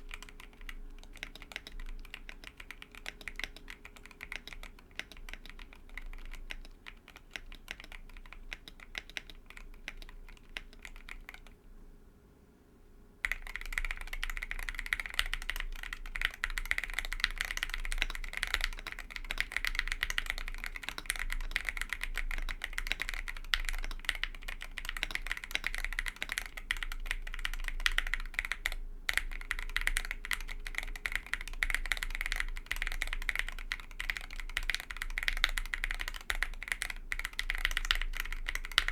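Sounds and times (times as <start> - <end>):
typing on mechanical keyboard: 0.0 - 11.6, 13.2 - 38.9.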